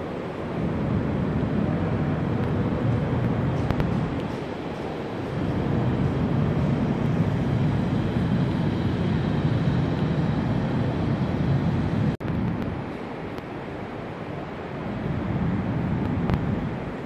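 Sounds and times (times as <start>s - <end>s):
low rumbling hall ambience: 0.0s - 17.0s.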